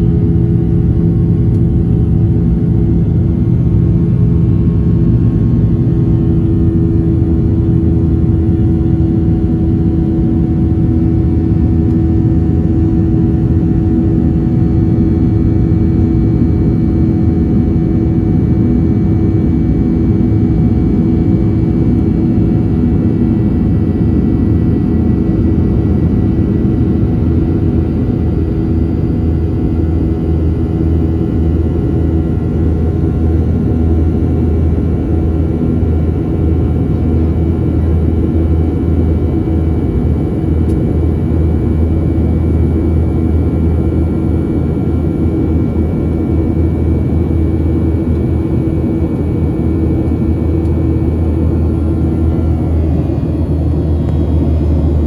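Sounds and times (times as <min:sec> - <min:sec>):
jet engine rumble in cabin: 0:00.0 - 0:55.0.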